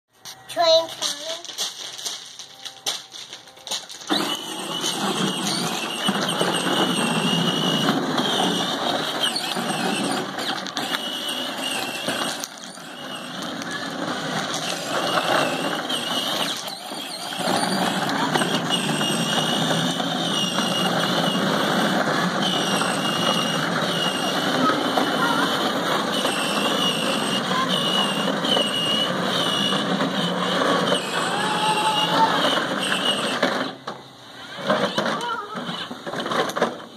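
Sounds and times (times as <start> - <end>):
plastic wheels rolling: 0.2 - 36.9
toy train motor whirring: 0.2 - 36.9.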